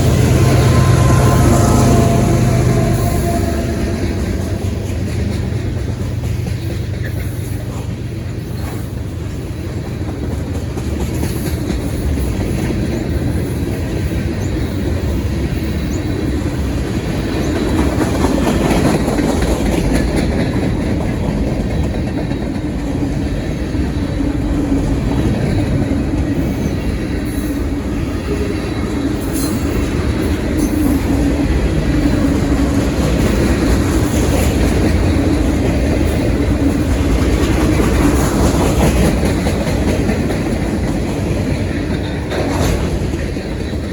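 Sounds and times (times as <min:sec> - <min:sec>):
steel wheels clacking over rail joints: 0:00.0 - 0:43.9
train rumble: 0:00.0 - 0:43.9.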